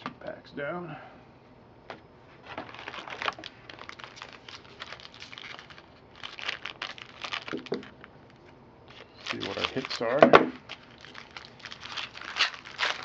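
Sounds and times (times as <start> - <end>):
foil wrapper crinkling: 2.4 - 13.0.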